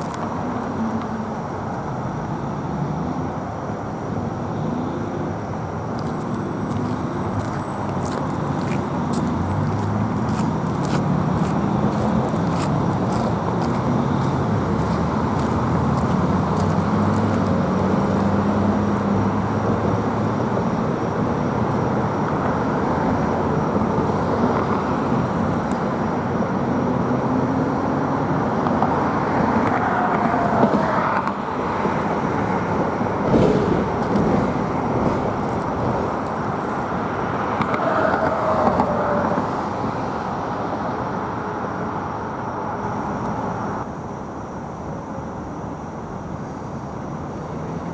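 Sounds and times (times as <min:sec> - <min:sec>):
road traffic wash: 0:00.0 - 0:47.9
vehicles passing by: 0:00.0 - 0:47.9.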